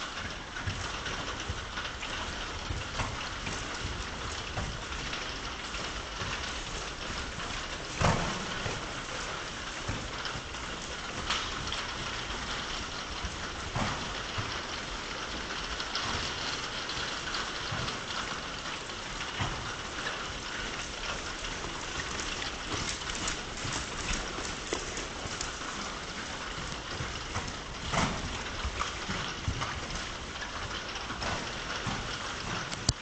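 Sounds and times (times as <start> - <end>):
soft hoofbeats on sand: 0.0 - 33.0.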